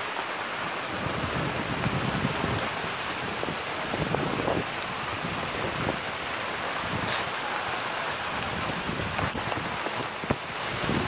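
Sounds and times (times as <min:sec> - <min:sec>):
hail falling on asphalt: 0:00.1 - 0:11.0.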